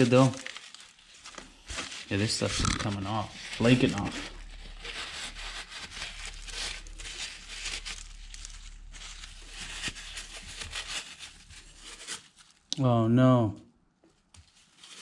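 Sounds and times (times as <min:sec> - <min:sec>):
scraping carbon deposits: 0:00.0 - 0:12.7.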